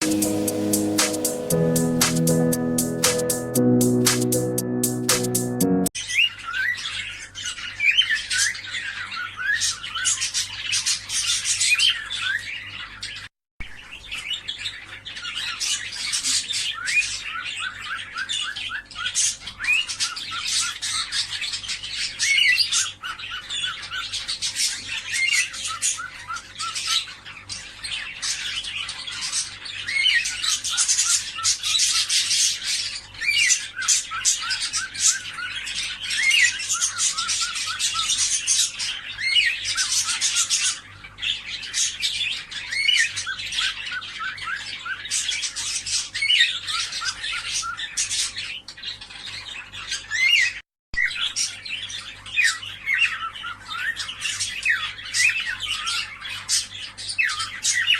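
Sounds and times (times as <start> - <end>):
cockatiels chirping and squawking: 6.1 - 57.9.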